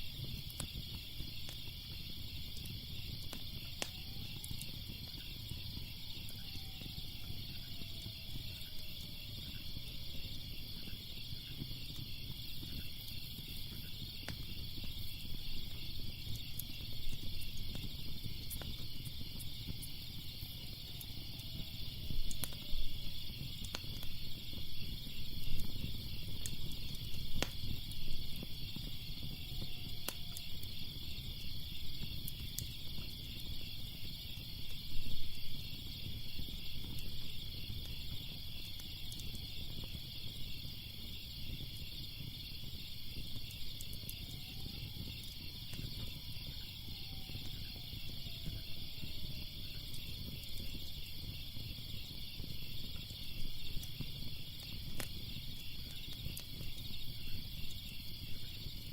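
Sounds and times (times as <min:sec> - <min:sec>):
night insects chirping: 0:00.0 - 0:58.9
wood fire crackling and popping: 0:00.0 - 0:58.9.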